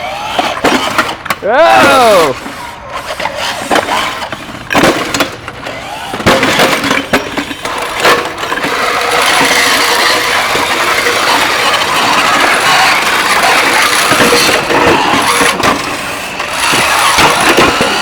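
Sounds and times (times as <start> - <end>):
loud mechanical motor whirring: 0.0 - 18.0.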